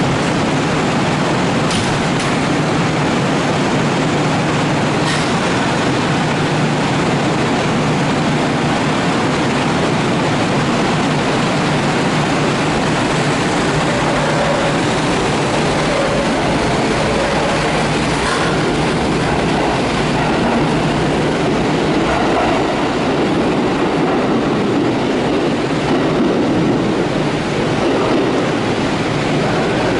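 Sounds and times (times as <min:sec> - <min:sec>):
train wheels rumbling: 0:00.0 - 0:29.9.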